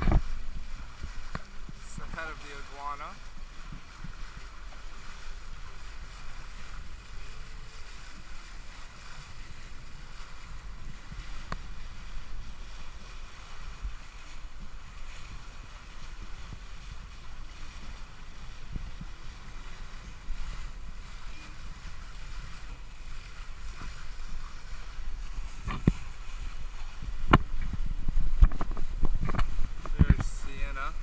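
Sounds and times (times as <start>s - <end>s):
water washing past hull: 0.0s - 31.0s
wind buffeting microphone: 0.0s - 31.0s.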